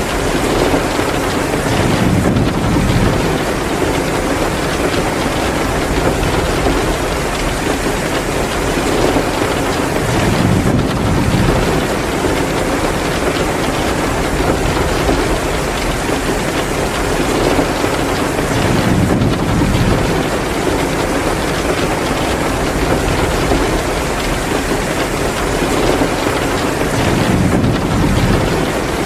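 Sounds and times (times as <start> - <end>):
heavy rain falling: 0.0 - 29.0
wood fire crackling: 0.0 - 29.0.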